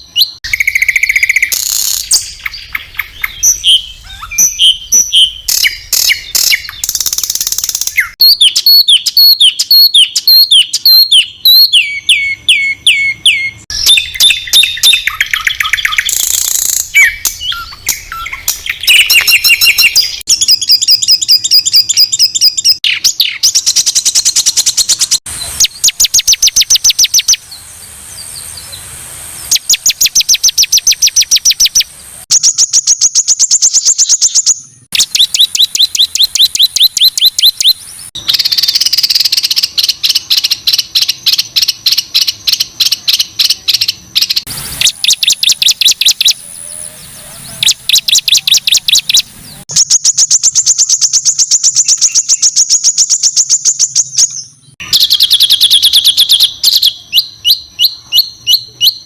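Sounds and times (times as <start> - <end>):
songbird rapid-fire phrases: 0.0 - 59.0.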